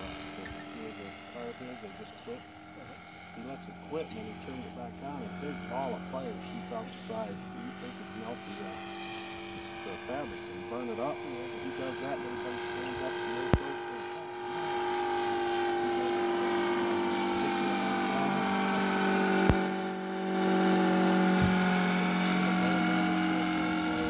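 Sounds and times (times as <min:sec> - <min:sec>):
model plane engine droning: 0:00.0 - 0:24.0.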